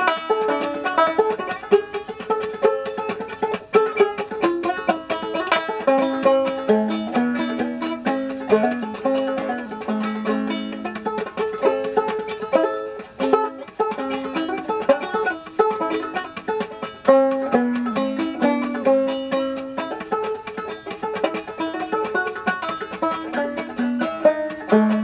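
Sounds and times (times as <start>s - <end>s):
banjo plucked notes: 0.0s - 25.0s.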